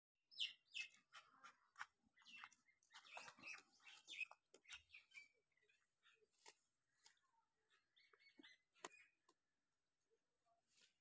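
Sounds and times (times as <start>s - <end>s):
small birds chirping: 0.3s - 9.7s.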